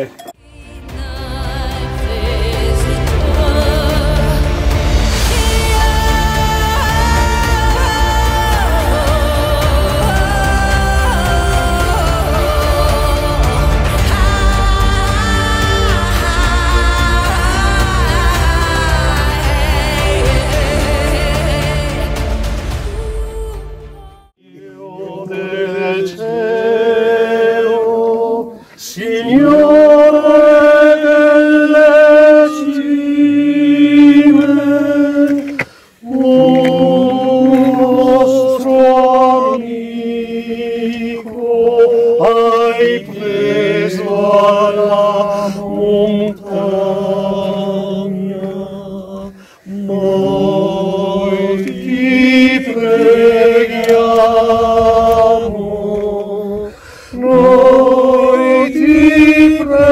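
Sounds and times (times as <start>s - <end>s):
group singing a cappella: 0.8s - 59.9s.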